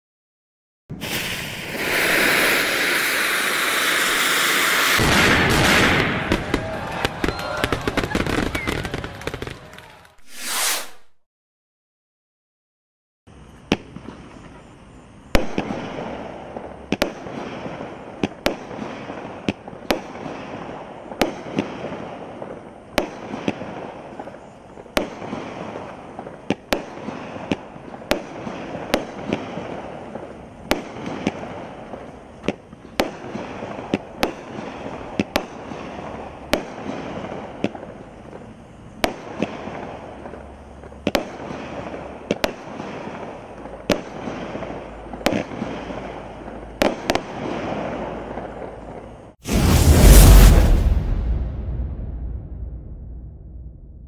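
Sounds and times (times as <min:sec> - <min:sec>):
fireworks bangs: 0:00.9 - 0:11.2, 0:15.4 - 0:54.0
fireworks rushing noise: 0:00.9 - 0:11.3, 0:15.4 - 0:54.0.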